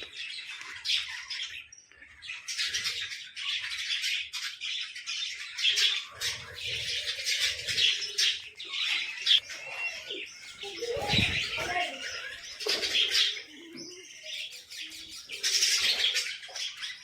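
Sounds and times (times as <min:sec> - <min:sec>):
birds chattering and chirping: 0:00.0 - 0:17.0.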